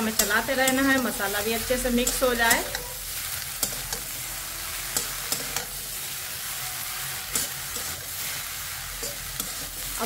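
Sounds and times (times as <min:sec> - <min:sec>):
spatula scraping a pan: 0:00.0 - 0:10.0
stems sizzling in a pan: 0:00.0 - 0:10.0.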